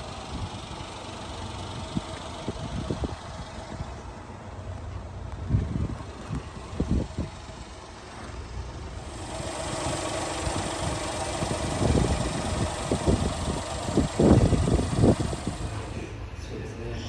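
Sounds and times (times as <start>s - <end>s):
small truck engine idling: 0.0s - 17.0s.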